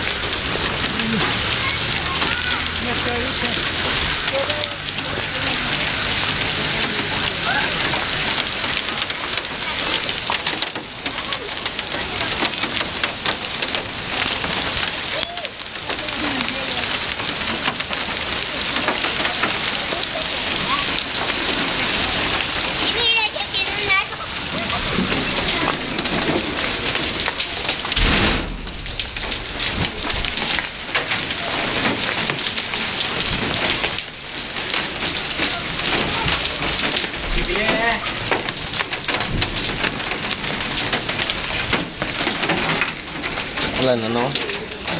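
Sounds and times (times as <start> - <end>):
hail hitting a car: 0.0 - 44.9
rain hiss: 0.0 - 44.9.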